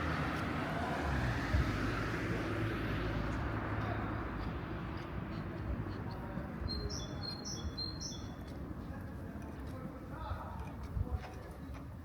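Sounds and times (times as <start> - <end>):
low town background hum: 0.0 - 12.0.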